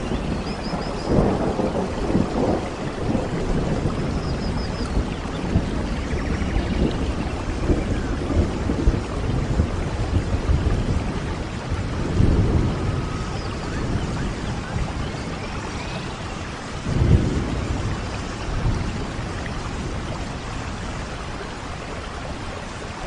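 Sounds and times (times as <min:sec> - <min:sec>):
low thunder rolls: 0:00.0 - 0:23.0
steady rain: 0:00.0 - 0:23.0.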